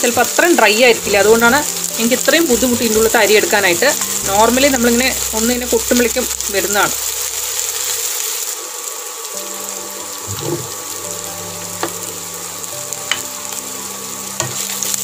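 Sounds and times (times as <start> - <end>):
shallots sizzling in hot oil: 0.0 - 15.0.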